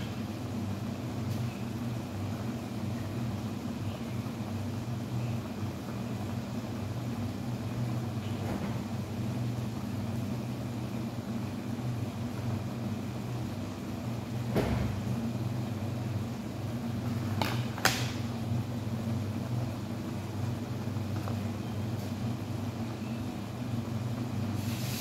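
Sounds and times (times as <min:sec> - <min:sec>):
low fan hum: 0:00.0 - 0:25.0.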